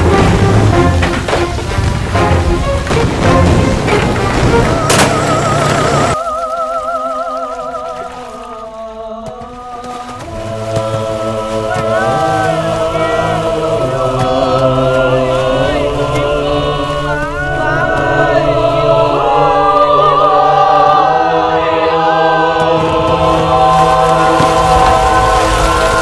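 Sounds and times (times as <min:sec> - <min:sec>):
choir singing chant-like notes: 0:00.0 - 0:26.0.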